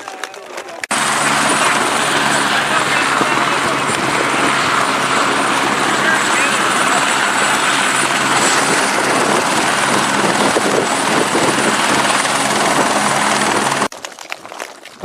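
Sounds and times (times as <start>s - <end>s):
helicopter drone with high whine: 0.9s - 13.9s.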